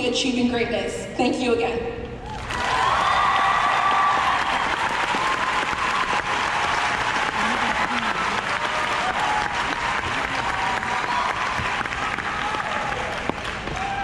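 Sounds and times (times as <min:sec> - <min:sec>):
audience applauding: 0:02.3 - 0:14.0.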